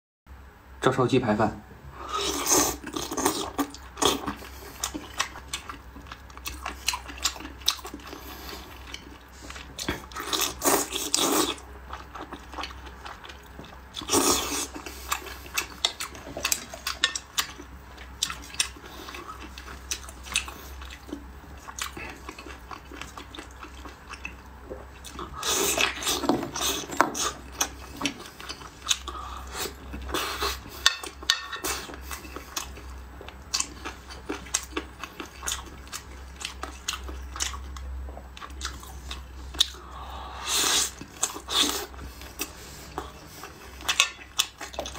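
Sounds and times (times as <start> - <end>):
wet chewing: 2.4 - 39.8, 40.6 - 44.9.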